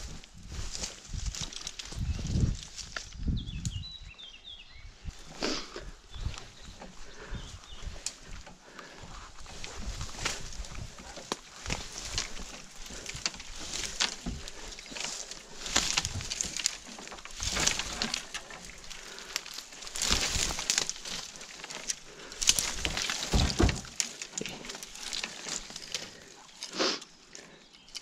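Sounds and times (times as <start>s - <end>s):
footsteps through dry leaves: 0.0s - 3.2s, 5.1s - 27.0s
twigs crackling and snapping: 0.0s - 3.9s, 5.0s - 28.0s.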